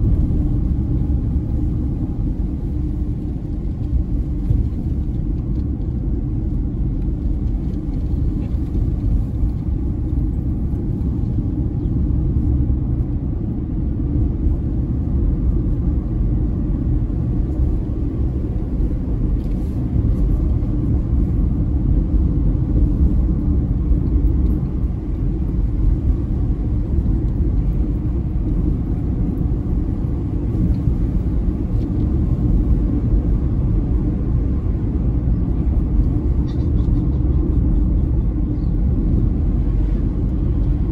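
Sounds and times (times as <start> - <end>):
car engine rumble: 0.0 - 40.9
tyre road noise: 0.0 - 40.9.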